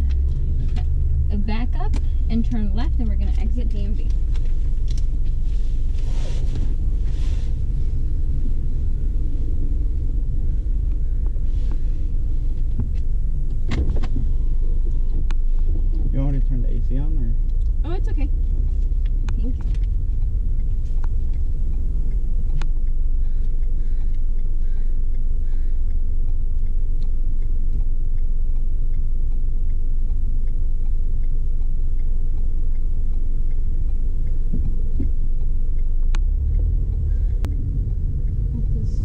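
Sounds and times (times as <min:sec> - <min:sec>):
car interior road rumble: 0:00.0 - 0:39.0.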